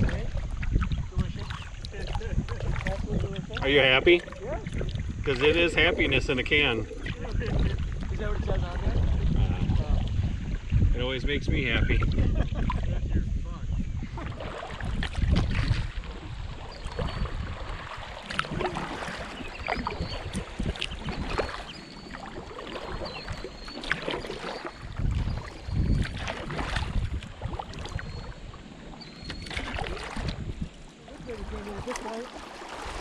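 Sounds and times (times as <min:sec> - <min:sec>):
paddles splashing in water: 0:00.0 - 0:10.8, 0:14.0 - 0:33.0
wind buffeting microphone: 0:00.0 - 0:33.0.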